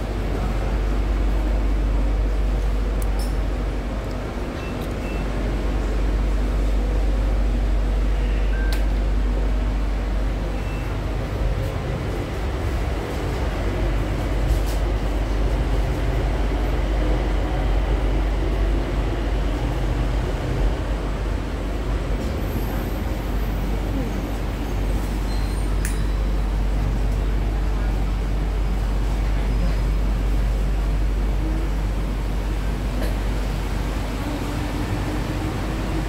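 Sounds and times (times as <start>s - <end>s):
train carriage rumble: 0.0s - 36.0s.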